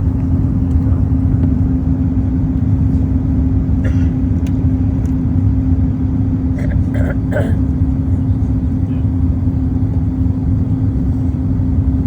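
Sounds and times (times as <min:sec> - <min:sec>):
engine rumble with droning hum: 0:00.0 - 0:12.0.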